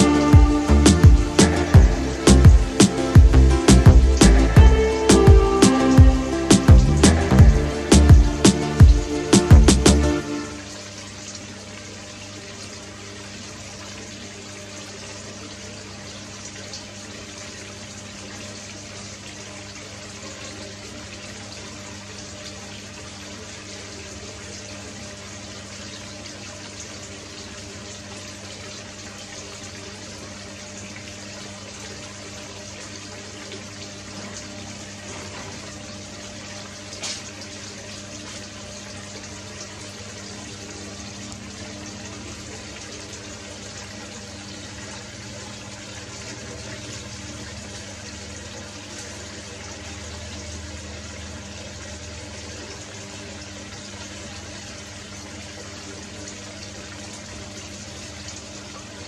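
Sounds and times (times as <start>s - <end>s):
filter pump motor hum: 0.0s - 59.0s
water rushing in aquarium: 0.0s - 59.0s.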